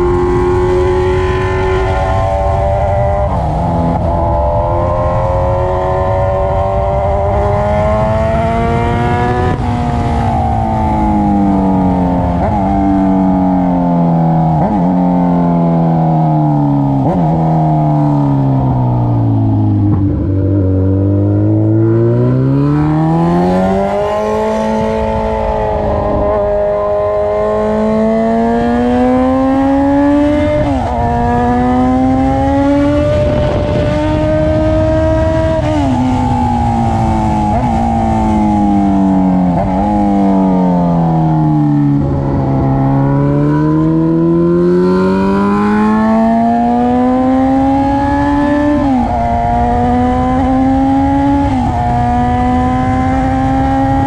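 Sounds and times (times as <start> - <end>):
loud unmuffled motorcycle engine: 0.0 - 54.0.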